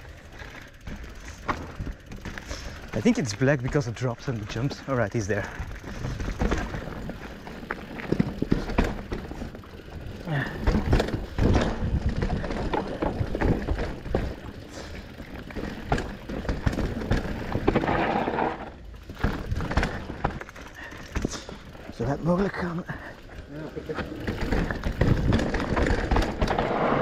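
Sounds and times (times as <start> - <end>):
bike frame knocks and rattles: 0.8 - 22.5, 23.8 - 27.0.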